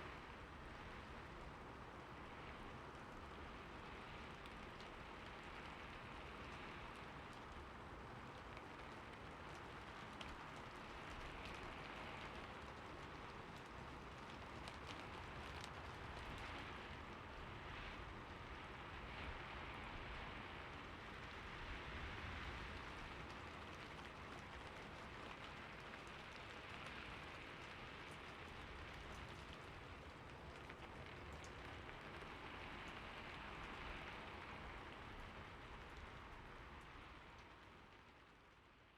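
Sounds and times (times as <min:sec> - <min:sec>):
steady rain hiss: 0:00.0 - 0:38.9
raindrop ticks: 0:03.2 - 0:18.8, 0:20.7 - 0:38.9.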